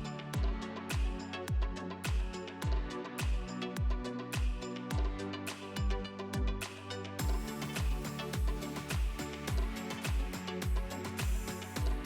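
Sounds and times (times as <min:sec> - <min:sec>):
music with deep kick drum beat: 0:00.0 - 0:12.0.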